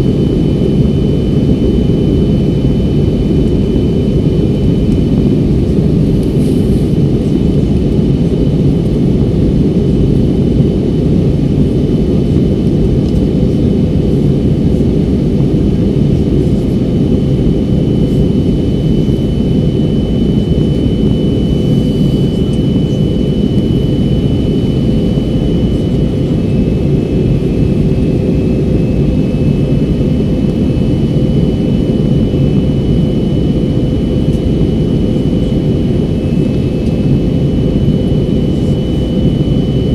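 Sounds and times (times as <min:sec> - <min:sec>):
jet engines and airflow rushing: 0:00.0 - 0:39.9
thin steady whine: 0:00.0 - 0:39.9.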